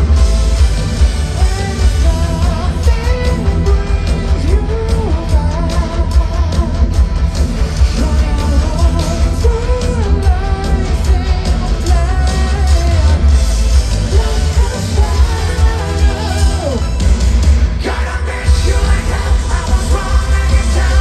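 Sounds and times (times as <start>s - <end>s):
heavy metal band playing: 0.0s - 21.0s
man singing: 1.3s - 17.0s, 17.7s - 21.0s.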